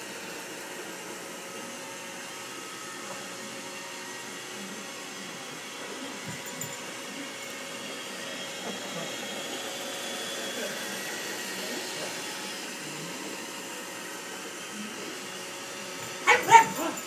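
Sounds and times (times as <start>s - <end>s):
robot vacuum whirring on carpet: 0.0s - 17.0s.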